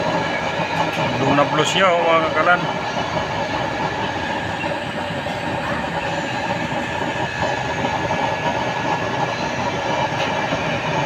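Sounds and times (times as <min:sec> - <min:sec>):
burner flame rushing: 0:00.0 - 0:11.0.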